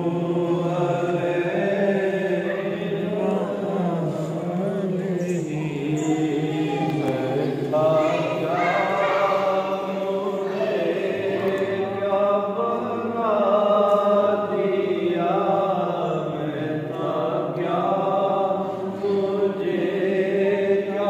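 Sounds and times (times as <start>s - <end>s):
man chanting devotional song: 0.0s - 21.0s.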